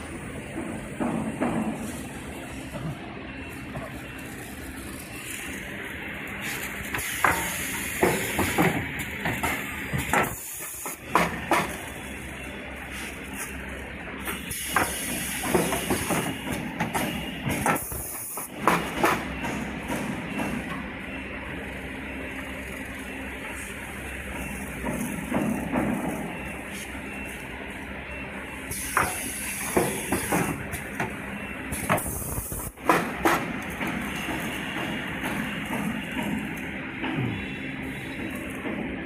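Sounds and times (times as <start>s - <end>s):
packing machine humming: 0.0s - 39.0s.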